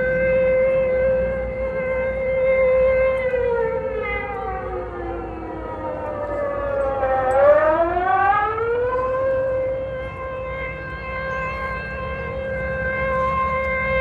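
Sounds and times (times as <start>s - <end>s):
air raid siren wailing: 0.0s - 14.0s.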